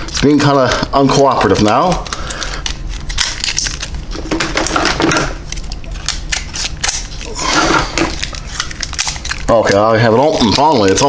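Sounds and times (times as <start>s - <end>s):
plastic packaging crackling: 0.0s - 11.0s
scissors cutting plastic: 0.0s - 11.0s.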